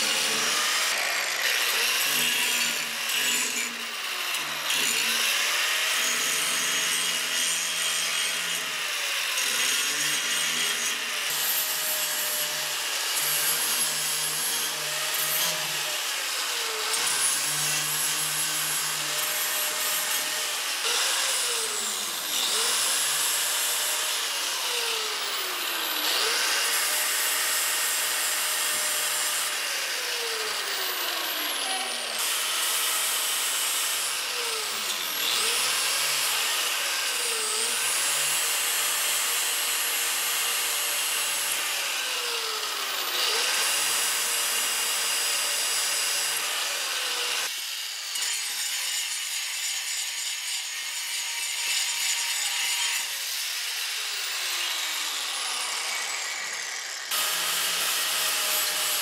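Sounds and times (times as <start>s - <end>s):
angle grinder grinding steel: 0.0s - 59.0s.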